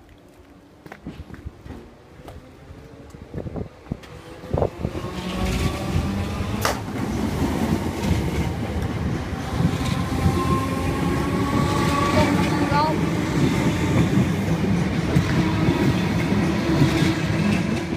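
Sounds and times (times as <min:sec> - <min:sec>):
electric train rumble: 0:01.2 - 0:17.9.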